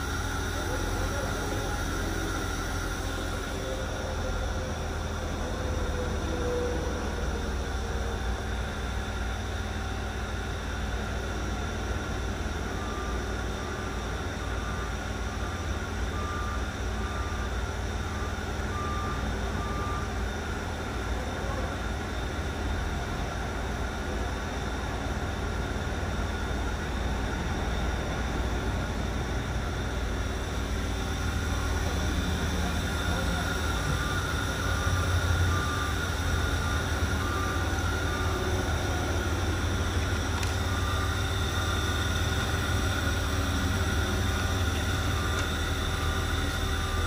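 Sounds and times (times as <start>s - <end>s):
machinery humming: 0.0s - 47.0s.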